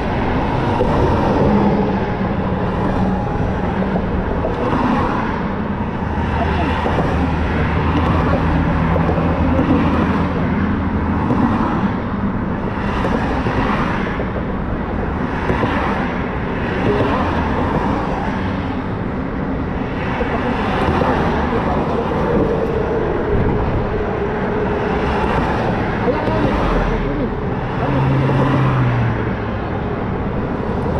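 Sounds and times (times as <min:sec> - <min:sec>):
wind rushing: 0:00.0 - 0:29.2.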